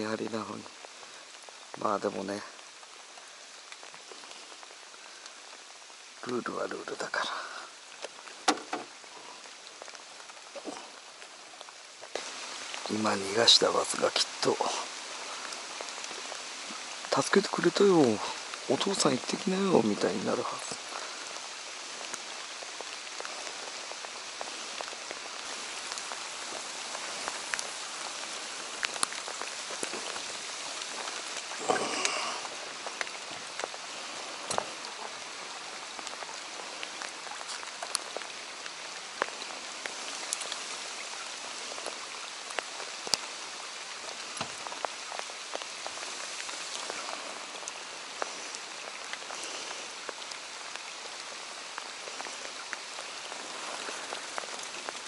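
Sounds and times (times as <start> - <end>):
rain on water: 0.0 - 55.0.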